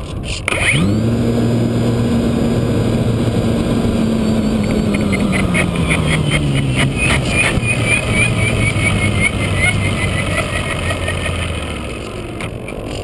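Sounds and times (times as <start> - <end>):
rush of wind: 0.0 - 13.0
electric motor propeller hum: 0.4 - 13.0.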